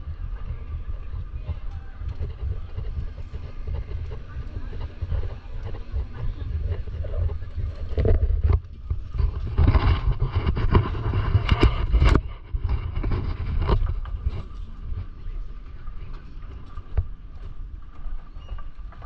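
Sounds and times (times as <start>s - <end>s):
faint voices of passers-by: 0.0s - 19.0s
wind rumbling on microphone: 0.0s - 19.0s.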